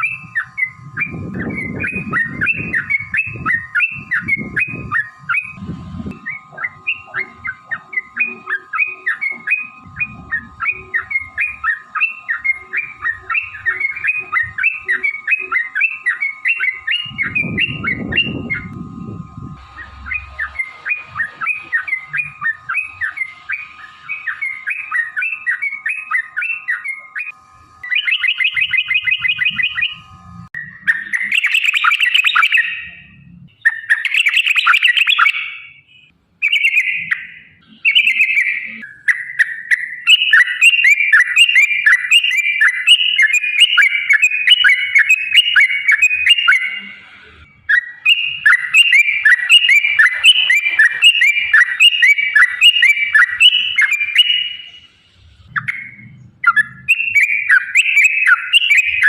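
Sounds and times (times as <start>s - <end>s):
bird chattering song: 0.0s - 59.0s
bird fast trill: 0.0s - 59.0s
harsh noisy bird call: 0.0s - 59.0s.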